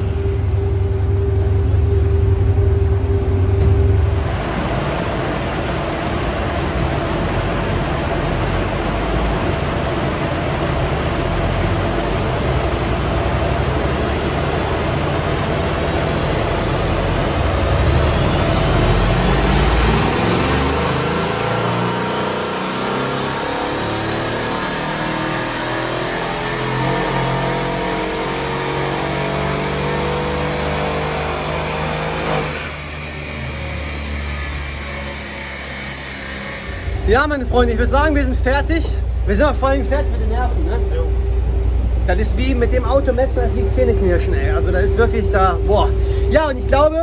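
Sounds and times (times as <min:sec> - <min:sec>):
car engine at full throttle: 0:00.0 - 0:47.0
dyno rollers winding down: 0:00.0 - 0:47.0.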